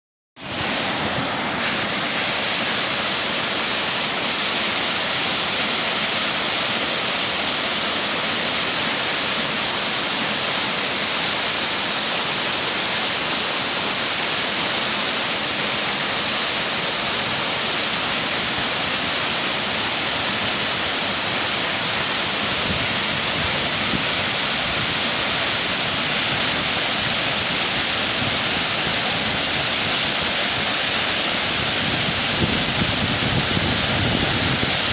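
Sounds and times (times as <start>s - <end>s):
spring water rushing: 0.4s - 34.9s.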